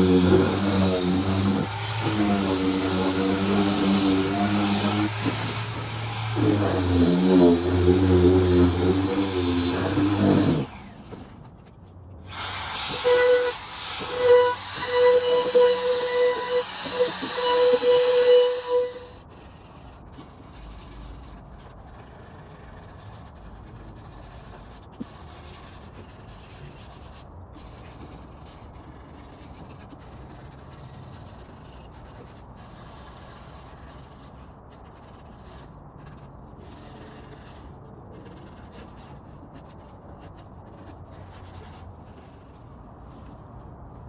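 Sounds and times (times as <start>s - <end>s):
sandpaper rubbing on wood: 0.0s - 11.2s, 12.3s - 42.6s.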